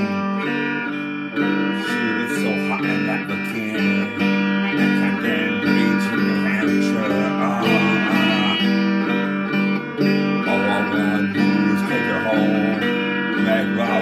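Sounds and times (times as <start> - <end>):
electric guitar riff: 0.0 - 14.0.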